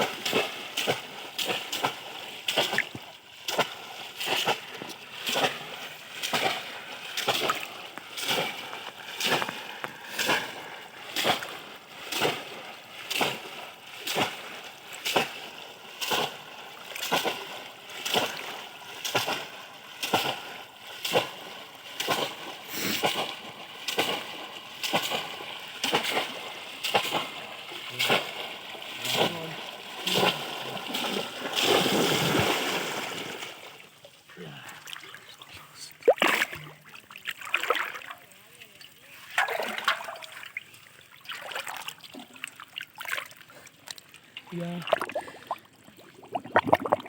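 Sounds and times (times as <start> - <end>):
water splashing rhythmically: 0.0 - 47.0.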